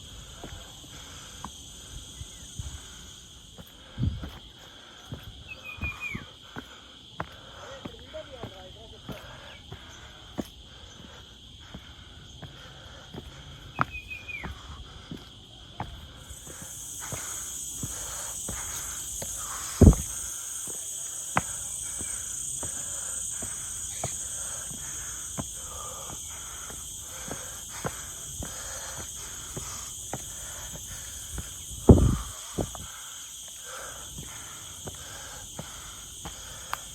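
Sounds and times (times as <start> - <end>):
loud high insect buzz: 0.0 - 7.6, 9.2 - 36.9
insects droning: 0.0 - 36.9.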